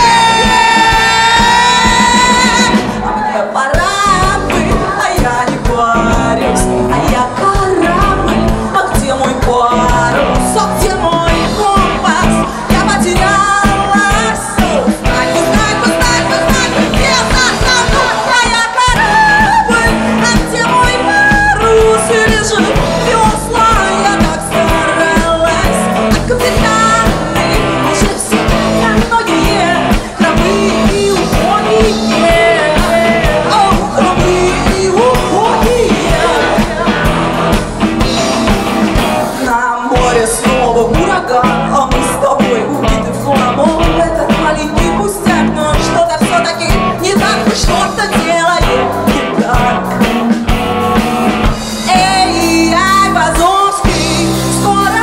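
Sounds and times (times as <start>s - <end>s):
electric bass: 0.0s - 3.2s, 3.8s - 55.0s
drum kit beat: 0.0s - 55.0s
woman singing lead: 0.0s - 55.0s.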